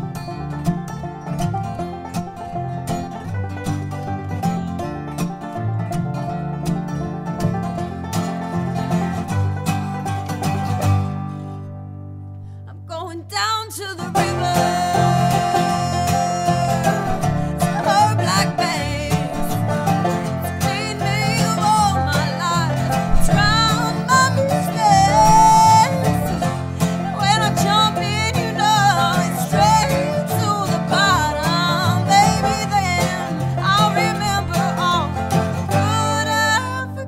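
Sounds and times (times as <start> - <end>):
acoustic guitar: 0.0 - 37.0
banjo picking: 0.0 - 37.0
sliding dobro lines: 0.0 - 37.0.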